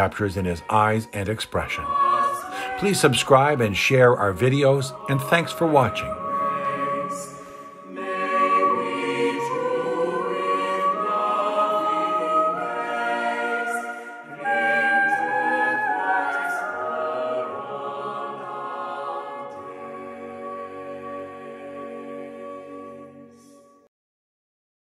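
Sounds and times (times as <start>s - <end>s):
choir singing sacred music: 0.0s - 23.9s.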